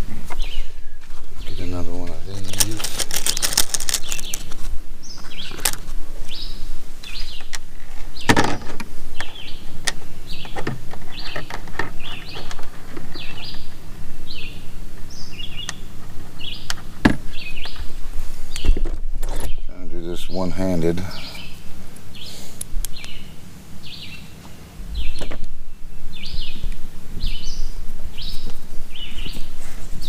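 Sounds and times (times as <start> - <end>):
steady low hum: 0.0 - 30.0
small bird chirping: 0.3 - 8.4, 9.1 - 29.6.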